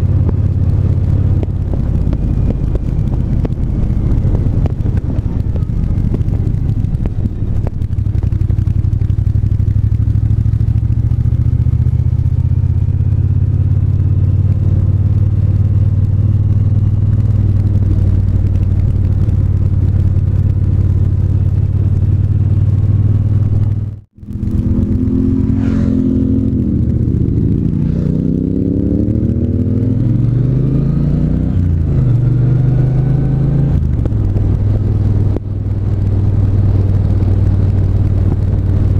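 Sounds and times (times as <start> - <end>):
motorcycle engine: 0.0 - 38.9
road and wind noise: 0.0 - 38.9.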